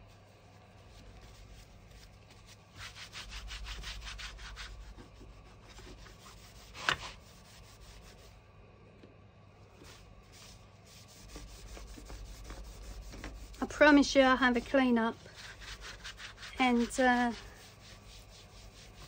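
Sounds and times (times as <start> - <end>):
paper towel rubbing on board: 0.0 - 8.4, 9.8 - 19.0.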